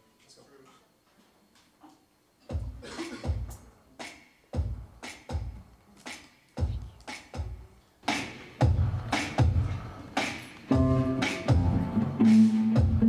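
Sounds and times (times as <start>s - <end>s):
drum kit kick and snare beat: 2.4s - 13.0s.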